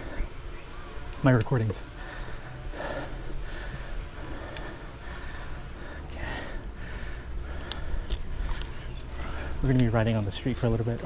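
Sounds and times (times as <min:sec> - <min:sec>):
bike tyres humming on pavement: 0:00.0 - 0:11.0.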